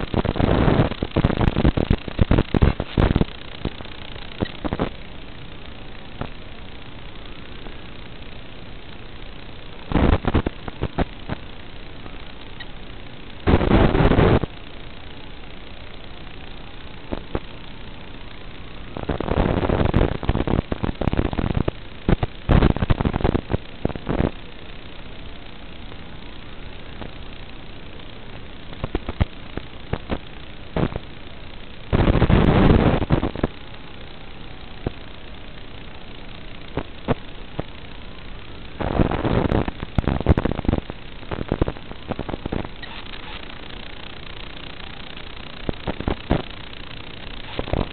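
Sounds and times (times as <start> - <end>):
racing drone motors: 0.0 - 47.9
static crackle bursts: 0.0 - 47.9
steady radio hiss: 0.0 - 47.9.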